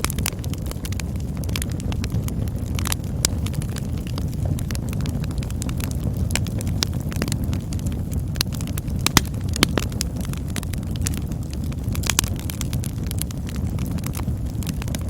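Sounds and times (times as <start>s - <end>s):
campfire flames roaring: 0.0s - 15.0s
fire crackling and popping: 0.0s - 15.0s.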